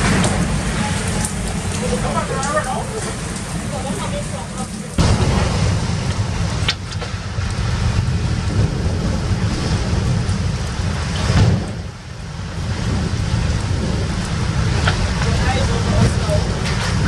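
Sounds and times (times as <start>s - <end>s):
heavy rain beating on window: 0.0s - 17.0s
hurricane wind: 0.0s - 17.0s.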